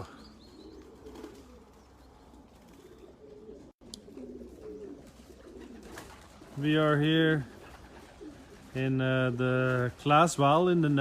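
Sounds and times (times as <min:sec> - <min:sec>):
pigeons cooing: 0:00.0 - 0:10.7.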